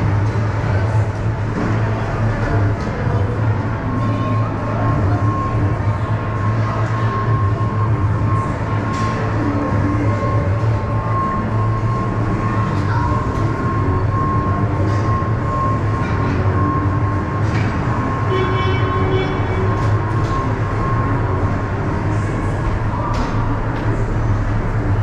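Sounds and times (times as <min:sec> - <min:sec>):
machinery low hum: 0:00.0 - 0:25.0
thin steady whine: 0:00.0 - 0:25.0.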